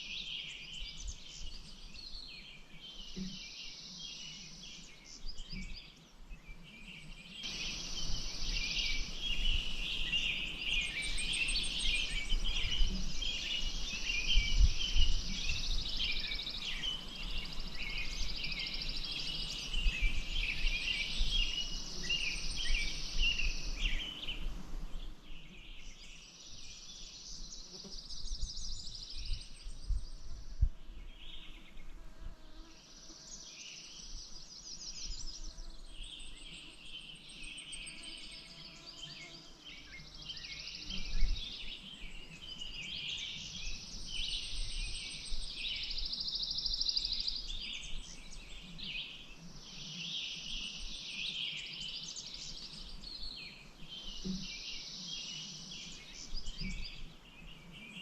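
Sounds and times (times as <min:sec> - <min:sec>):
birds chirping and trilling: 0:00.1 - 0:32.0, 0:33.0 - 0:58.0.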